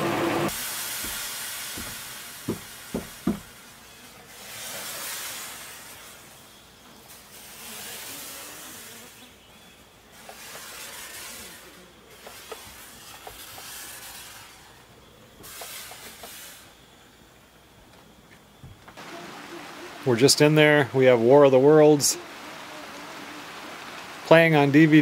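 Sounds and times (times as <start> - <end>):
fogger hissing spray: 0.0 - 9.4, 10.0 - 17.1, 19.0 - 25.0.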